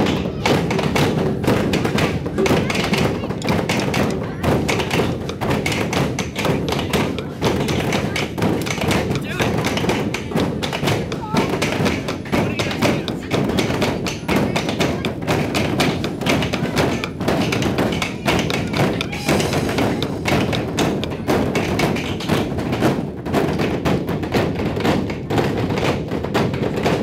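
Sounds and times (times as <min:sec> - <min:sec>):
drumstick taps: 0:00.0 - 0:23.7
giant drum deep thuds: 0:00.0 - 0:27.0.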